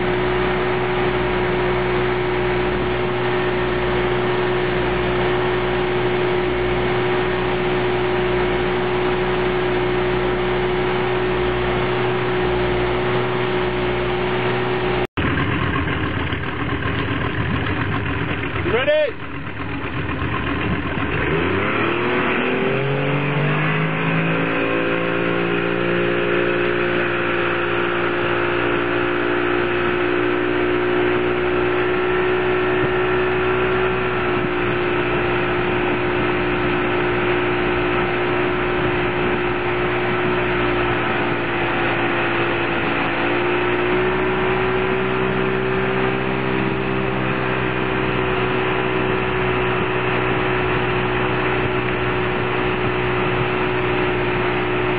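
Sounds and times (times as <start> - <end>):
boat engine throttling up: 0.0 - 54.9
rush of wind and water: 0.0 - 54.9.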